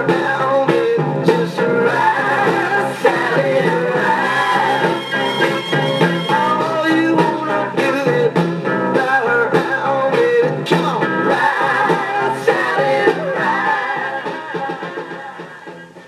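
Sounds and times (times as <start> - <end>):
rock and roll record playing: 0.0 - 16.0.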